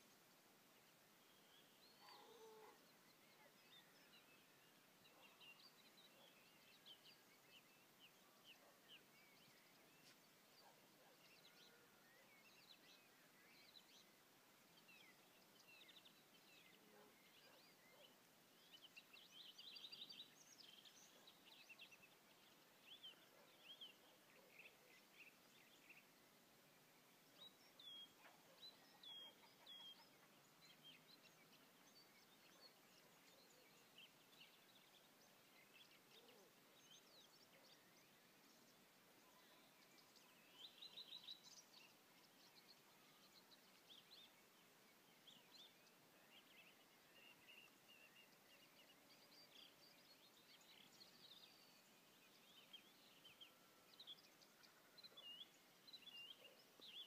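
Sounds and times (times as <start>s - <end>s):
background hiss: 0.0s - 57.0s
songbirds chirping: 0.0s - 57.0s.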